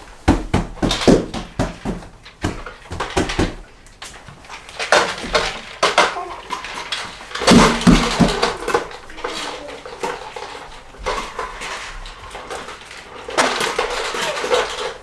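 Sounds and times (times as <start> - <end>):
hard objects clattering: 0.0 - 15.0.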